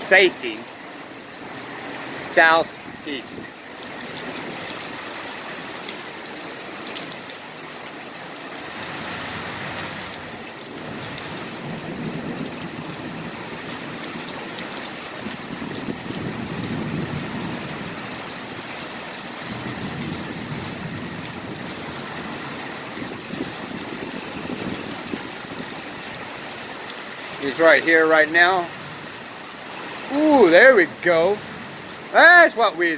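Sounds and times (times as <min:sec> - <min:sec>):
heavy rain hissing: 0:00.0 - 0:32.9.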